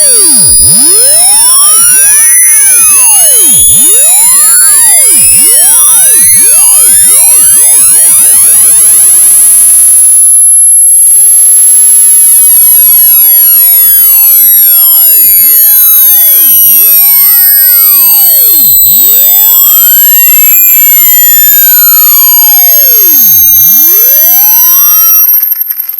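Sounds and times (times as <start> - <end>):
electronic tones gliding in pitch: 0.0 - 25.9
piercing high electronic whistle: 0.0 - 25.9.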